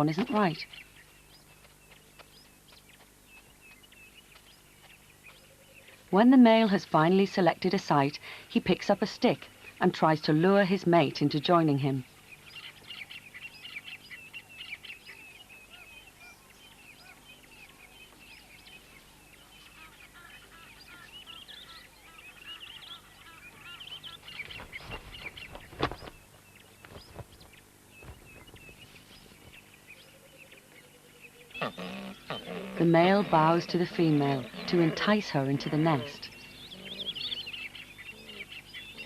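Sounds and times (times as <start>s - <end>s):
birds chirping and twittering: 0.0s - 39.0s.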